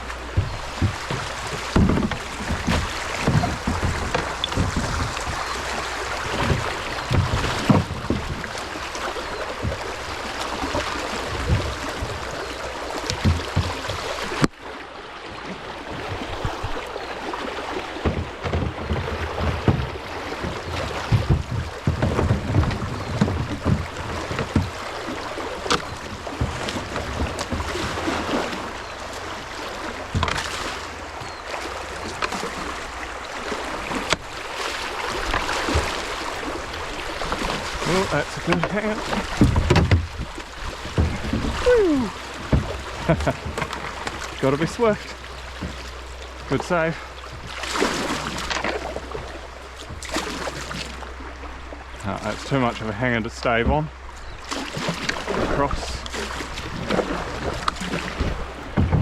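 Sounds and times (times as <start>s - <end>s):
creek water rushing: 0.0s - 58.8s
paddle splashes: 0.0s - 59.0s.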